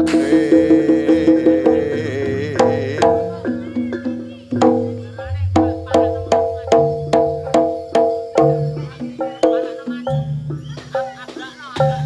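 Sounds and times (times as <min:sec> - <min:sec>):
struck metal notes: 0:00.0 - 0:11.2
drum strokes: 0:00.0 - 0:12.0
gamelan music: 0:00.0 - 0:12.0.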